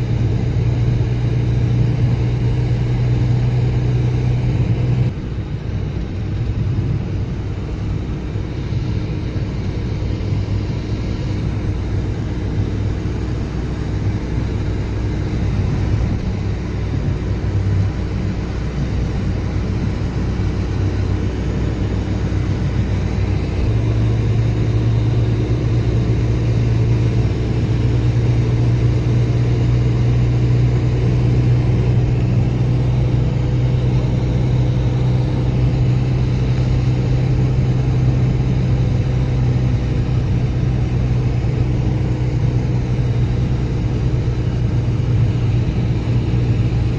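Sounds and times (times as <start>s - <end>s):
droning hum: 0.0s - 46.9s
low rumble: 0.0s - 46.9s.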